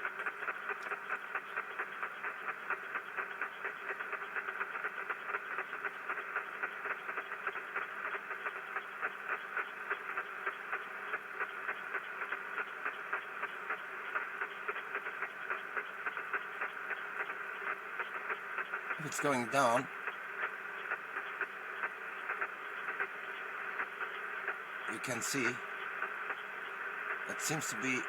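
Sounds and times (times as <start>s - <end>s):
radio static hiss: 0.0s - 28.0s
rapid crackling clicks: 0.0s - 28.0s.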